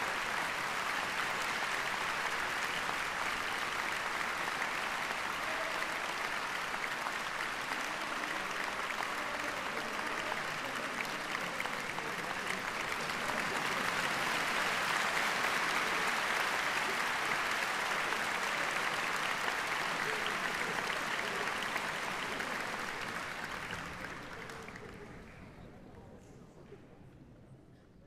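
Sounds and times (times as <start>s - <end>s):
audience applauding: 0.0s - 25.6s.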